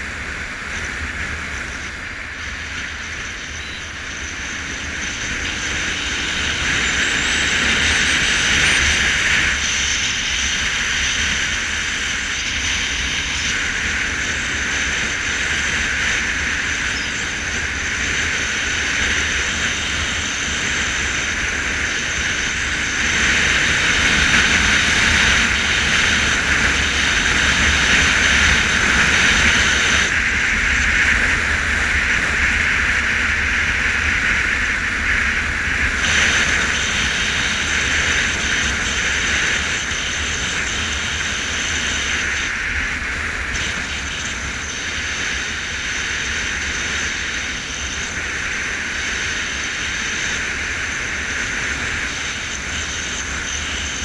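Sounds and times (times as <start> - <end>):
motorcycle engine: 0.0 - 54.0
rushing wind: 0.0 - 54.0.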